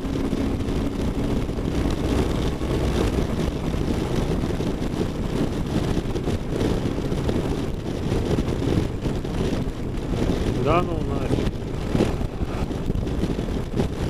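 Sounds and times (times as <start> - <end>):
motorcycle engine rumble: 0.0 - 14.0
wind rush: 0.0 - 14.0.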